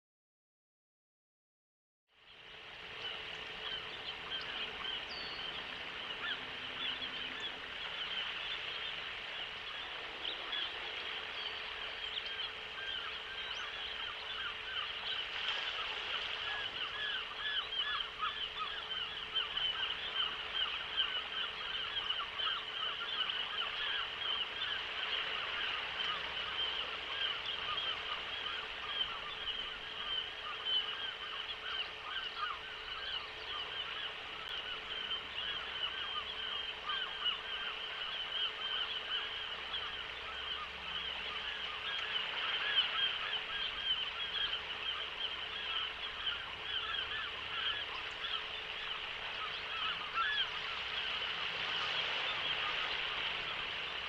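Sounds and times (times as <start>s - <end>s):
faint steady hum: 2.2s - 54.0s
seagulls calling: 2.9s - 54.0s.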